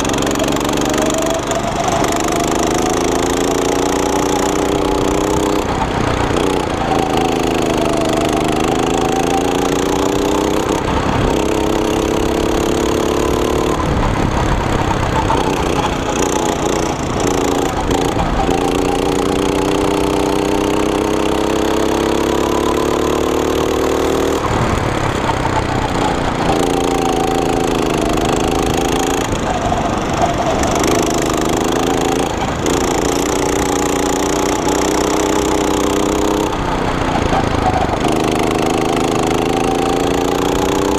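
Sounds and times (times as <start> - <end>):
go-kart engine revving: 0.0 - 40.9.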